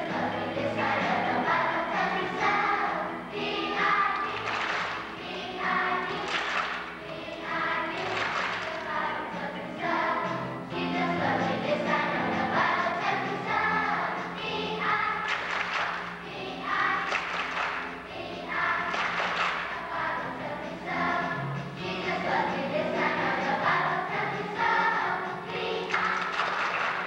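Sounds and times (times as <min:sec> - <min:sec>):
children's choir singing: 0:00.0 - 0:27.0.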